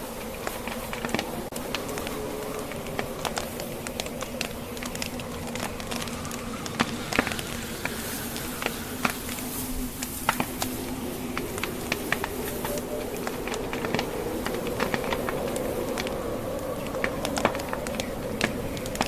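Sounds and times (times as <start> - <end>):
blizzard wind rushing: 0.0 - 19.0
wood fire crackling: 0.0 - 19.0.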